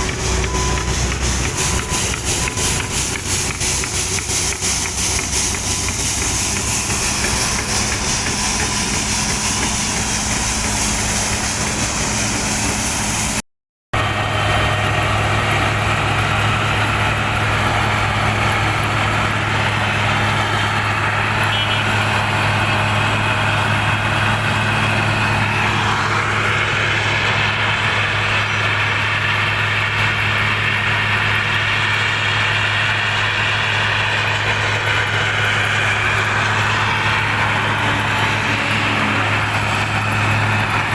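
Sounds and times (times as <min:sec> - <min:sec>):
diesel machinery engine hum: 0:00.0 - 0:13.4, 0:14.0 - 0:40.9.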